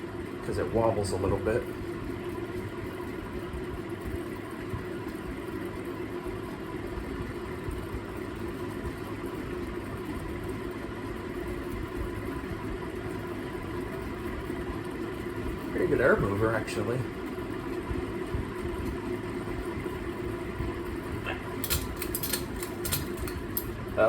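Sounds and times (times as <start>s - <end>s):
fan motor hum: 0.0s - 24.0s.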